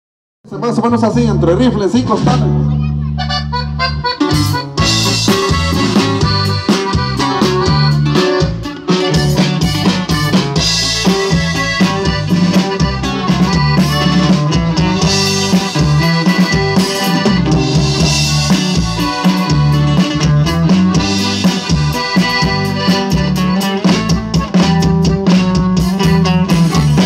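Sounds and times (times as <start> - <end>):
live band playing: 0.5 - 27.0
button accordion melody: 2.6 - 27.0.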